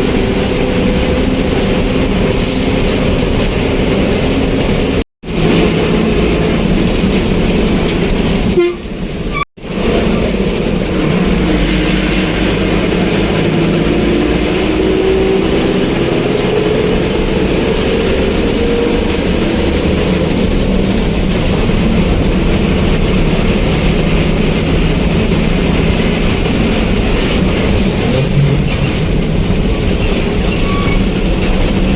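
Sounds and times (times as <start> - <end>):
vehicle running noise: 0.0 - 31.9.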